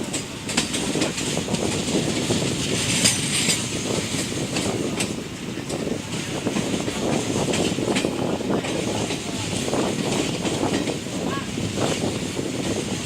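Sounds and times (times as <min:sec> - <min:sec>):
train rumbling: 0:00.0 - 0:13.0
train wheels clicking over rail joints: 0:00.0 - 0:13.0.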